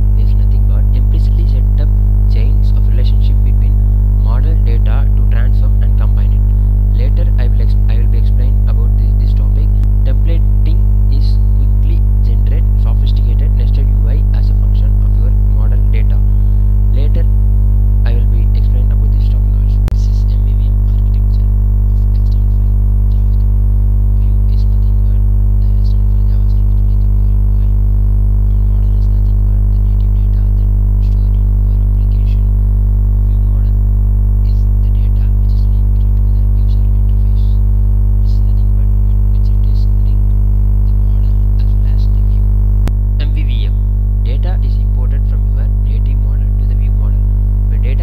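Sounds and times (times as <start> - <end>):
electrical mains hum: 0.0 - 48.0.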